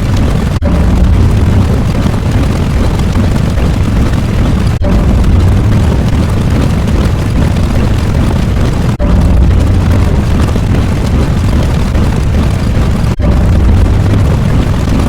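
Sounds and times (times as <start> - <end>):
heavy rumbling noise effect: 0.0 - 15.0.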